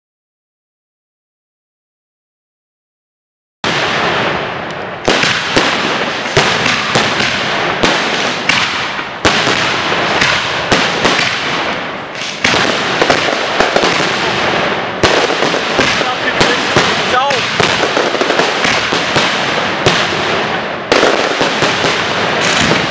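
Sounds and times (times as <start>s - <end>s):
fireworks bursting with sharp bangs: 3.6s - 22.9s
crackling hiss: 3.7s - 22.9s.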